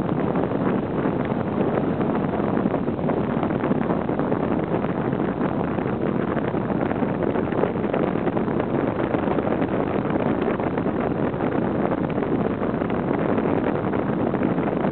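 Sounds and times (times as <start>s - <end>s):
wind on microphone: 0.0s - 14.9s.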